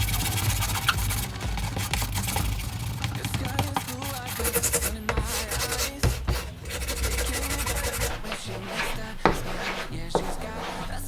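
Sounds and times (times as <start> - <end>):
scratchy rubbing on trim: 0.0 - 11.0.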